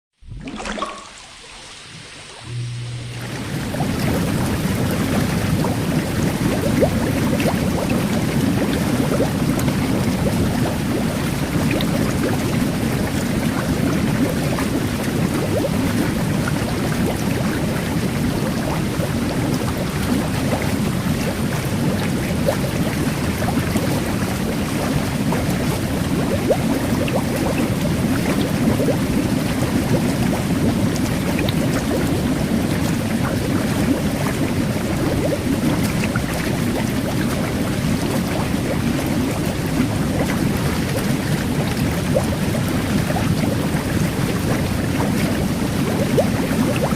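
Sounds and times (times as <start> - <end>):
fizzing microbubbles: 0.2 - 46.9
jet bath churning water: 0.2 - 46.9.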